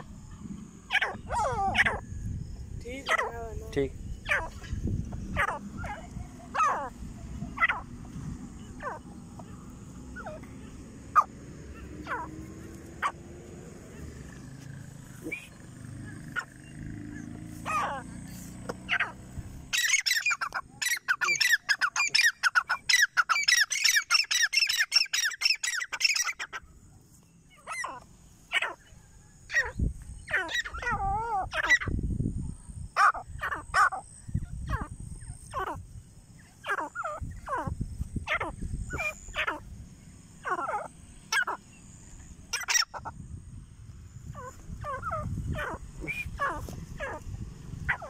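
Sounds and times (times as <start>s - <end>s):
francolins calling: 0.0s - 48.0s.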